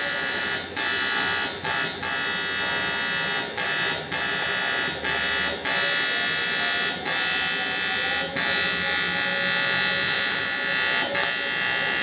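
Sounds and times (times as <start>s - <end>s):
welding arc buzzing: 0.0s - 12.0s.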